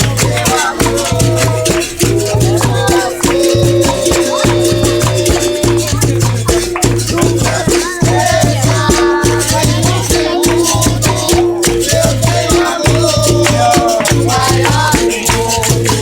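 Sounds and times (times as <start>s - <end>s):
caxixi rattle shaking: 0.0s - 16.0s
steady hand-clapping: 0.0s - 16.0s
voices singing: 0.0s - 16.0s.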